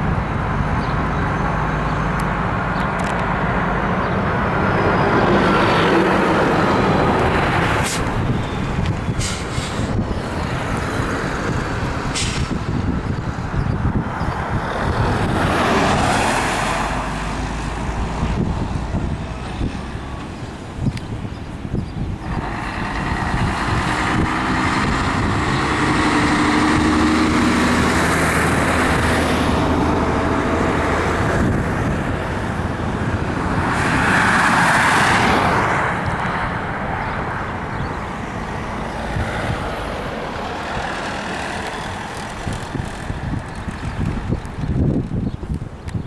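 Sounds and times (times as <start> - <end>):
jet engines roaring at takeoff: 0.0 - 46.0.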